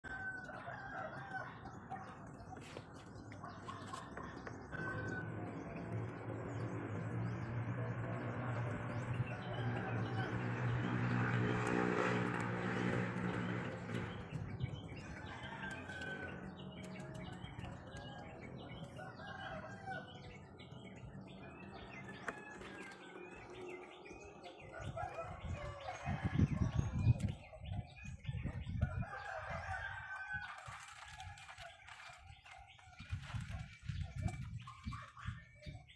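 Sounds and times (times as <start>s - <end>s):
roosters crowing: 0.0s - 35.6s
small birds chirping: 0.0s - 35.9s.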